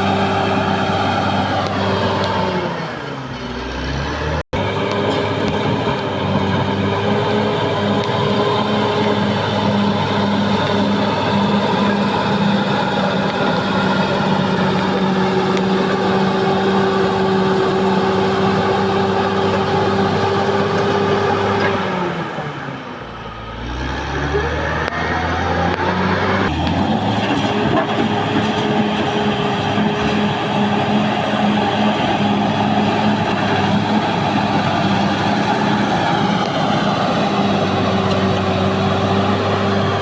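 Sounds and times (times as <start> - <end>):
bulldozer diesel engine revving: 0.0 - 40.0.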